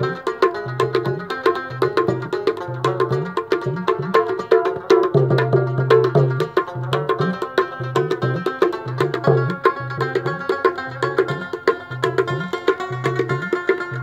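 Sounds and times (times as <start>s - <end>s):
hand drum beating: 0.0s - 14.0s
plucked string melody: 0.0s - 14.0s.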